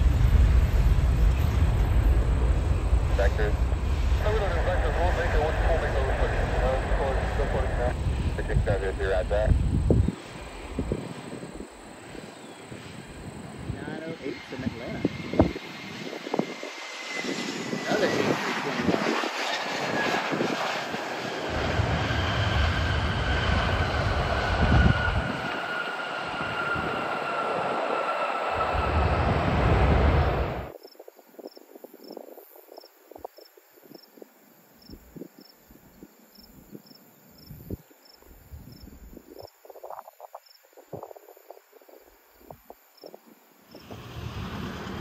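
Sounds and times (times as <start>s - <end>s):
jet engines rumbling and whining: 0.0s - 34.0s, 37.7s - 45.0s.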